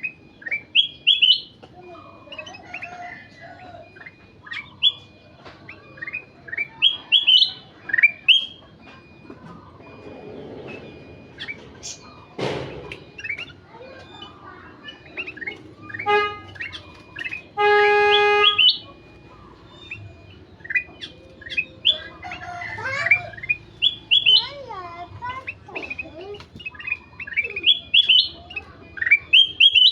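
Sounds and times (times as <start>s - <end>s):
bulbul chirping and whistling: 0.0s - 8.7s, 9.7s - 29.9s
reedy steady tone: 0.0s - 29.9s.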